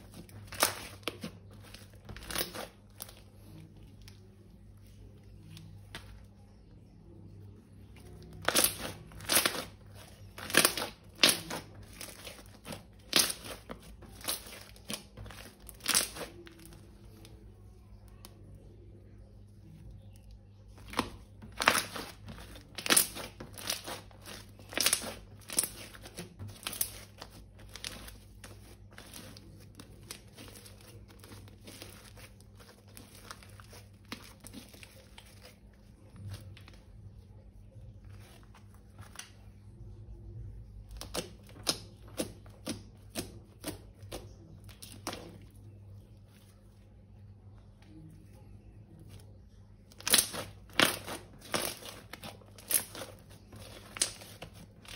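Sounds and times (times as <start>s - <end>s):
slime crinkling and crackling: 0.0s - 39.8s, 40.6s - 54.9s.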